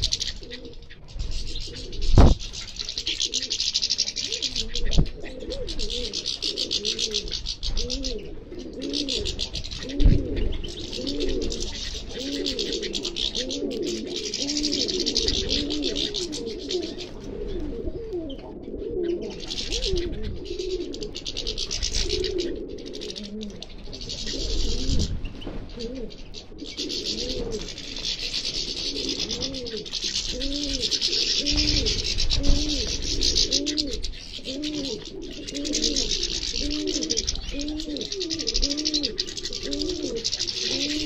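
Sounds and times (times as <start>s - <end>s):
finches twittering: 0.0s - 41.0s
pigeons cooing: 0.0s - 41.0s.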